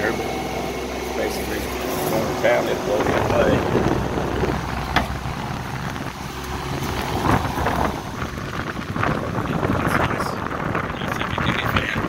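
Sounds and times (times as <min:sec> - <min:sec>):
fan air buffeting microphone: 0:00.0 - 0:12.0
low steady hum: 0:00.0 - 0:12.0.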